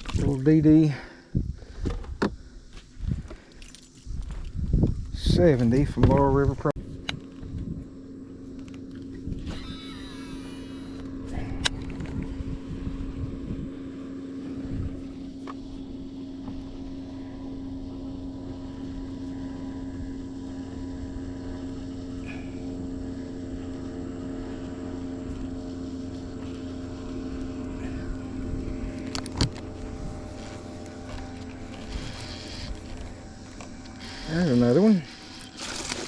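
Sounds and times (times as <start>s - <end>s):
boat motor humming: 5.2s - 36.0s.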